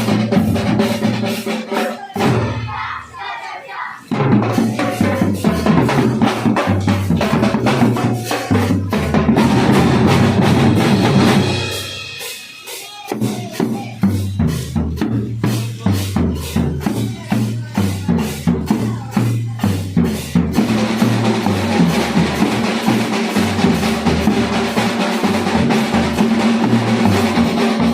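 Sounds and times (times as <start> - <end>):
marching drum line playing: 0.0 - 27.9.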